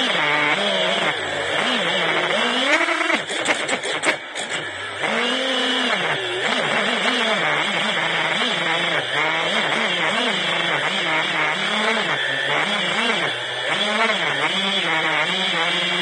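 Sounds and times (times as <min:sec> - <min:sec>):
quadcopter motors buzzing: 0:00.0 - 0:16.0.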